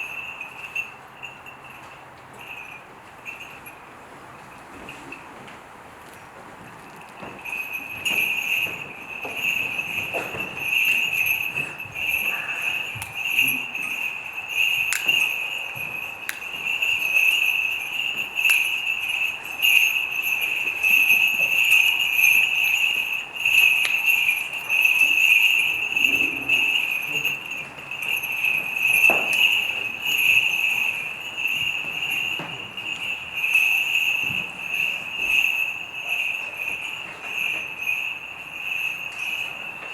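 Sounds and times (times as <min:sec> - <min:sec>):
high-pitched pulsing ringing: 0:07.7 - 0:39.9.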